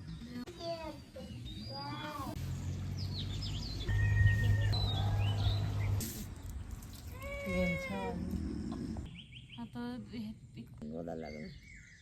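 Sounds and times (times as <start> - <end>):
birds chirping: 0.0 - 7.7, 8.5 - 12.0.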